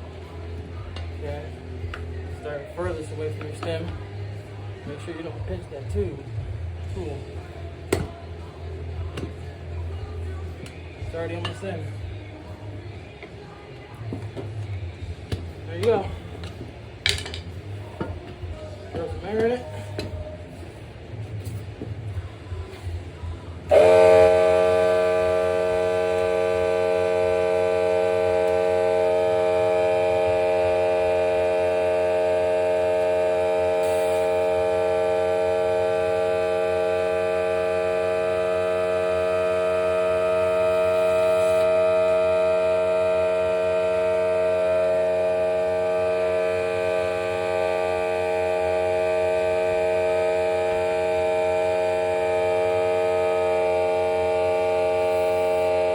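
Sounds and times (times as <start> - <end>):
air compressor running: 0.0 - 55.9.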